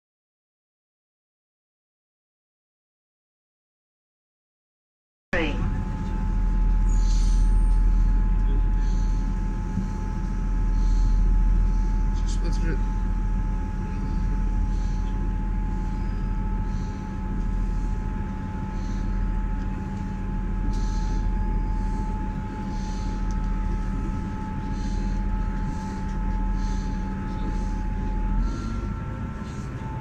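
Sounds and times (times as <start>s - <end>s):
faint whine: 5.4s - 30.0s
train running inside carriage: 5.4s - 30.0s.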